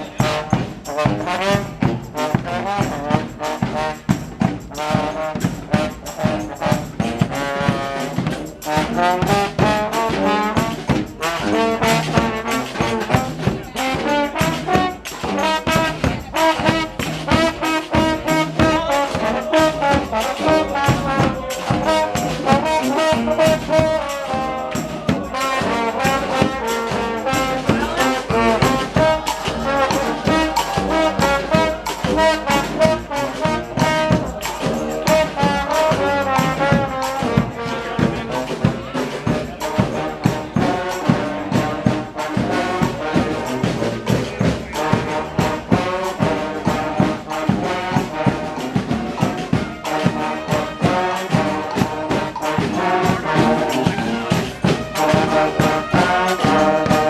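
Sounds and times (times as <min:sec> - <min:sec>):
brass horns playing a tune: 0:00.0 - 0:57.0
drum beat: 0:00.0 - 0:57.0.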